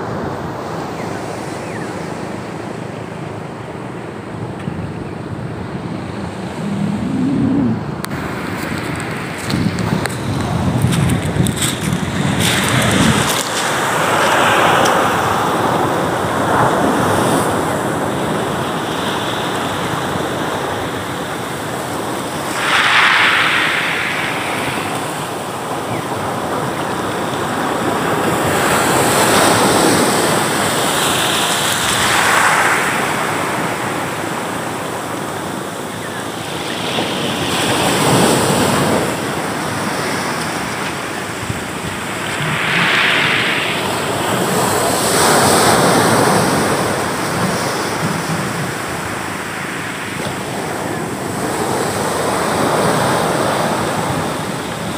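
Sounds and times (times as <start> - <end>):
waves washing over pebbles: 6.1 - 54.9.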